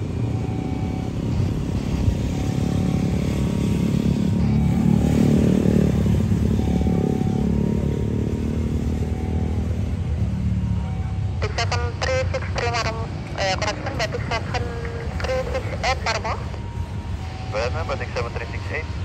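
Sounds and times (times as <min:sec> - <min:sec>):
motorcycles passing: 0:00.0 - 0:19.0
road traffic: 0:00.0 - 0:19.0.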